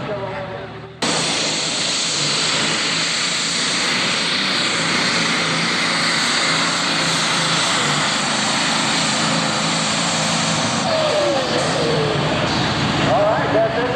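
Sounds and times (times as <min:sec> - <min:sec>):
diesel engine running hard: 0:00.0 - 0:13.9.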